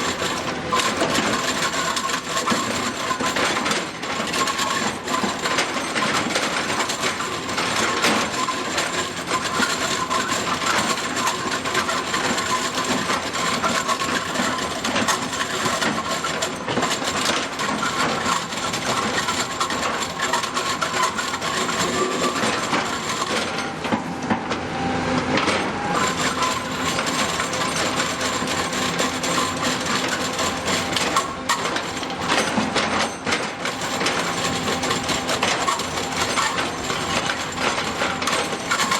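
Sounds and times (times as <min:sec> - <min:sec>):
drum cutter milling stone: 0:00.0 - 0:24.5, 0:25.3 - 0:38.9.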